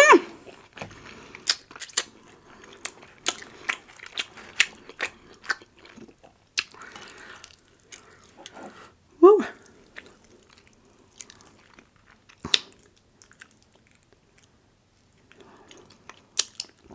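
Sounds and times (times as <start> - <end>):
chewing crunchy food: 0.4 - 8.8, 9.6 - 16.9.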